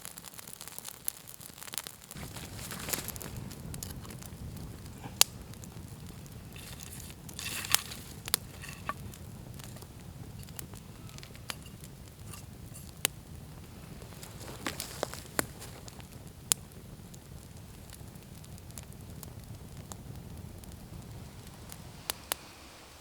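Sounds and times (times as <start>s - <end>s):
burning coals hissing: 0.0s - 23.0s
campfire crackling: 0.0s - 23.0s
sharp fire pops: 0.0s - 23.0s.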